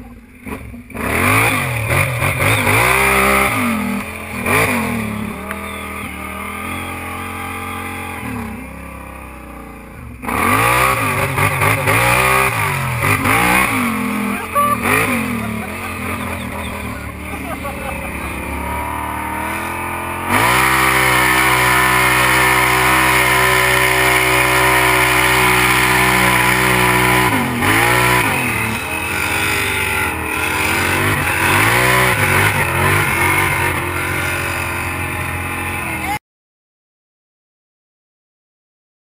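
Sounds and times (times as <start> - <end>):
atv engine revving: 0.0 - 36.2.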